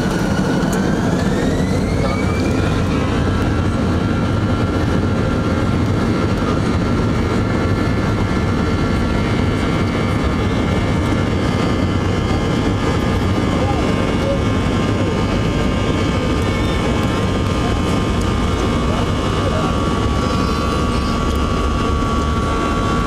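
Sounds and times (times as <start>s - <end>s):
jet engines spooling up: 0.0s - 23.0s.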